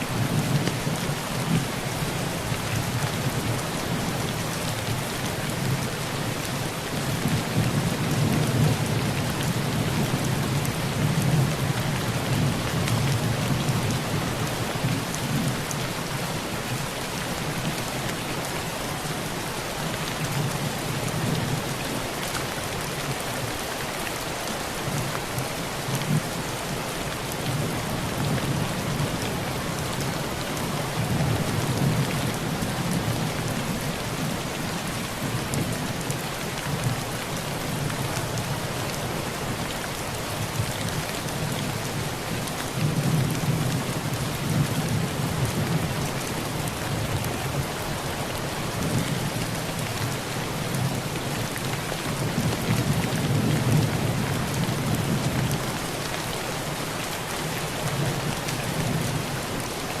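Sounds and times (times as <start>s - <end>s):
heavy rain on a tin roof: 0.0s - 60.0s.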